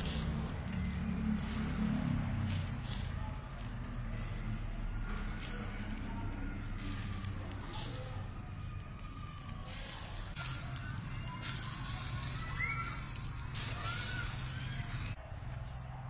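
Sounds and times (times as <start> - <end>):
charcoal fire crackling and hissing: 0.0 - 15.6.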